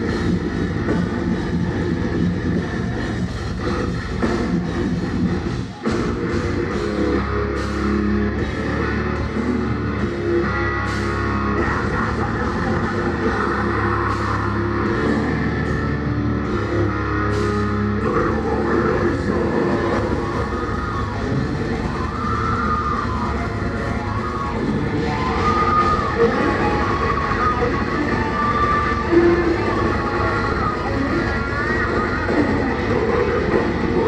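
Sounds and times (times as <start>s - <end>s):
metal band playing live: 0.0s - 34.0s.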